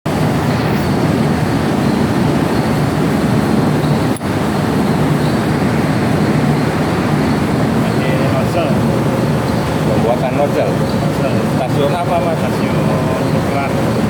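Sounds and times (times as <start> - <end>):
metal lathe rumbling: 0.1 - 14.0.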